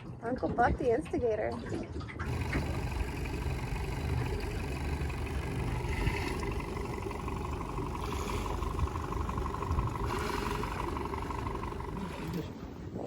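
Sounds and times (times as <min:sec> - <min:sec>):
motorboat engine running: 0:02.0 - 0:13.0.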